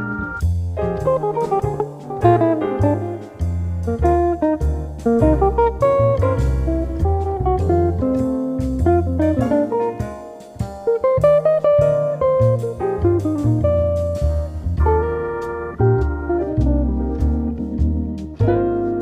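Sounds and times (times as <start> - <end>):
low bass line: 0.0 - 19.0
plucked guitar melody: 0.0 - 19.0.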